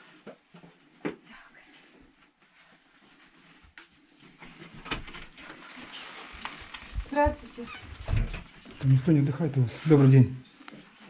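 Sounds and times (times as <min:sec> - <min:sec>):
shuffling and rustling: 0:00.0 - 0:10.2.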